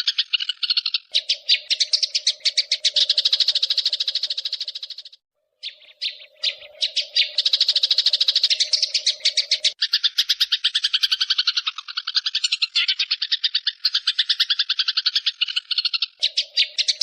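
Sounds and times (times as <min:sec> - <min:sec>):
songbird chirps and trills: 0:00.0 - 0:17.0.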